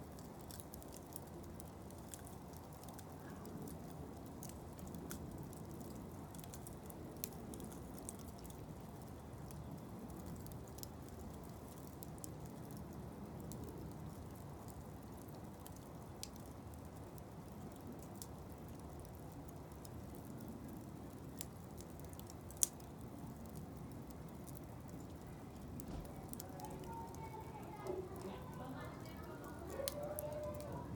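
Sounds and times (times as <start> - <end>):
fire crackling and popping: 0.0 - 30.9
wood fire burning: 0.0 - 30.9.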